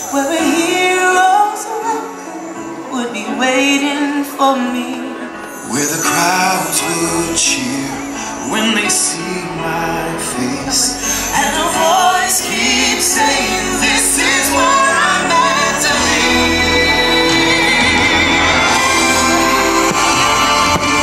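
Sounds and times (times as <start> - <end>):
music with singing: 0.0 - 21.0.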